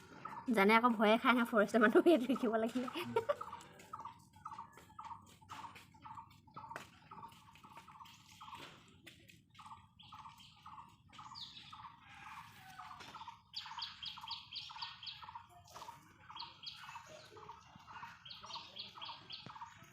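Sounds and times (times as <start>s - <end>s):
bird chirping: 0.0s - 19.9s.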